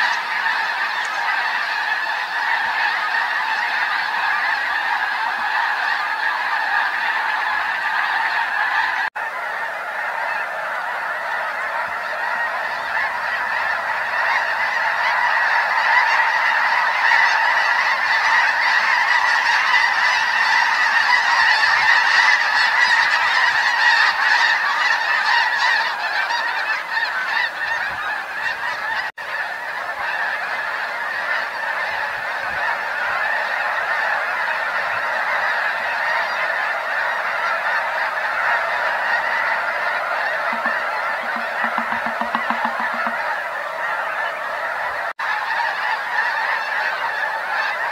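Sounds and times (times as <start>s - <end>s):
geese honking: 0.0s - 47.9s.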